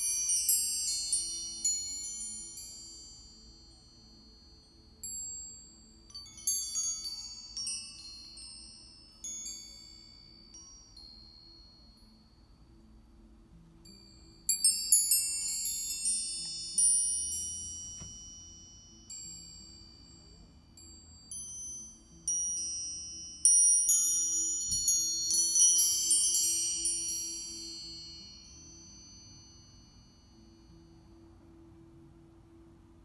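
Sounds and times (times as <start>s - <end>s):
metal wind chimes ringing: 0.0s - 31.5s.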